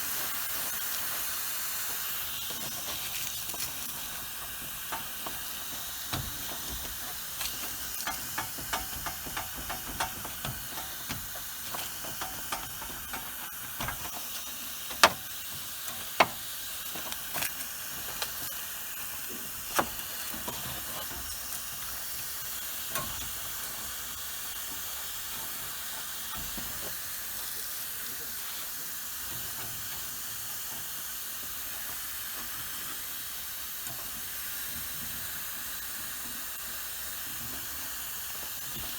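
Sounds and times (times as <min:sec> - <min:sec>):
refrigerant hissing: 0:00.0 - 0:38.9.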